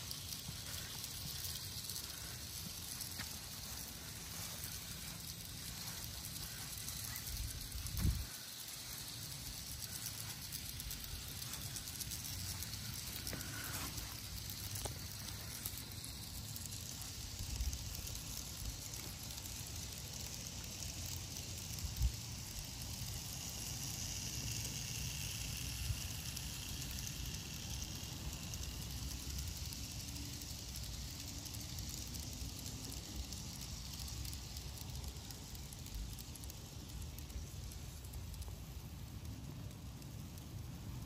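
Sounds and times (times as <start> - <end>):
steady hissing: 0.0 - 41.0.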